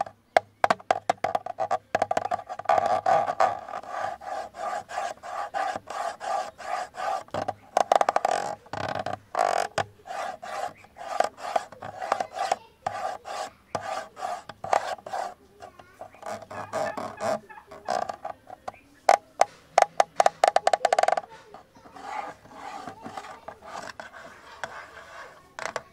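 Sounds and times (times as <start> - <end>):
rasping scratching on camera body: 0.0 - 25.9.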